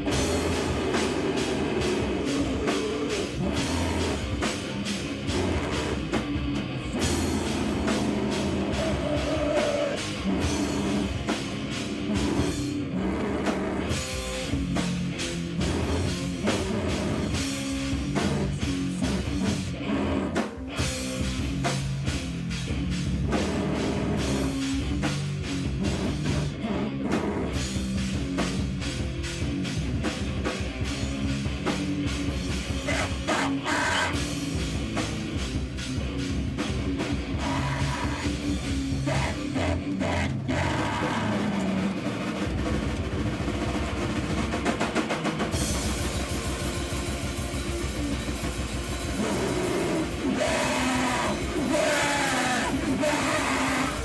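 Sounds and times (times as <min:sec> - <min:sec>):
distorted electric guitar: 0:00.0 - 0:54.0
drums with rapid hits: 0:00.0 - 0:54.0.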